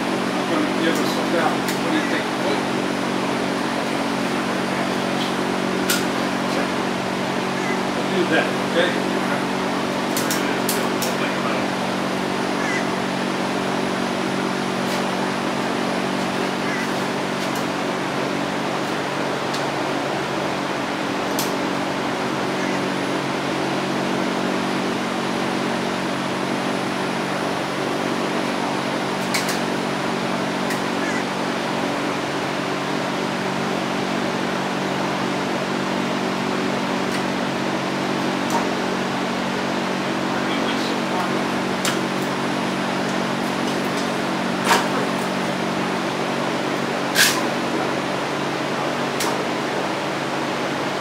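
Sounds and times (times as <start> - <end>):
machine running with rushing hum: 0.0 - 51.0.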